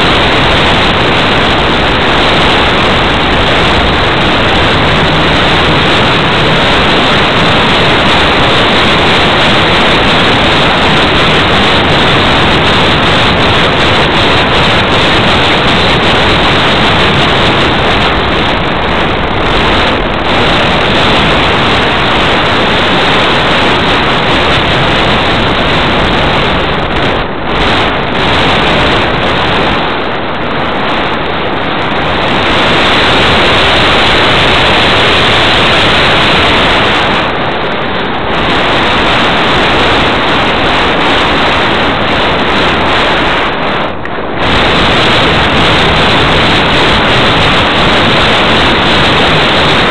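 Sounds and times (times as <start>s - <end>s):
heavy wind on microphone: 0.0s - 49.9s.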